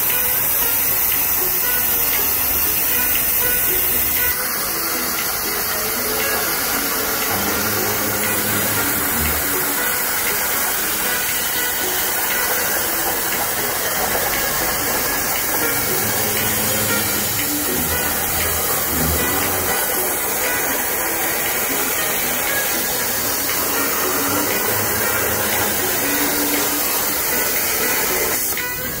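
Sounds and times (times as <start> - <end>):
plasma torch hissing: 0.0 - 29.0.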